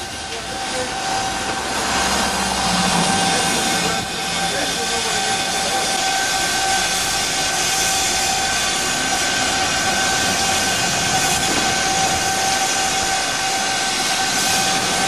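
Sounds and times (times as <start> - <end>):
steady high tone: 0.0 - 15.0
steam locomotive hissing: 0.0 - 15.0.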